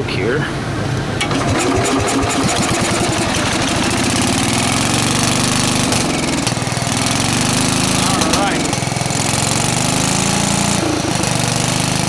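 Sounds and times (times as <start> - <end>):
lawn tractor engine starting: 1.1 - 12.0.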